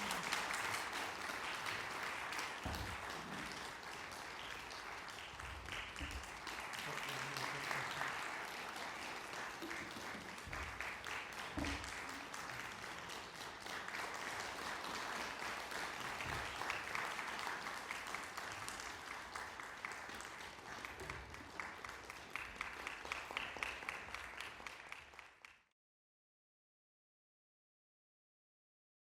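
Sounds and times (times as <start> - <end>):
audience applauding: 0.0 - 25.7.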